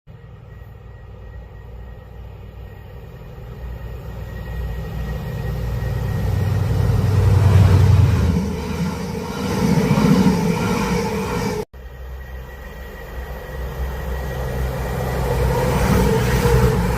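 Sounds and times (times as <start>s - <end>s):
train rumble: 0.1s - 16.9s.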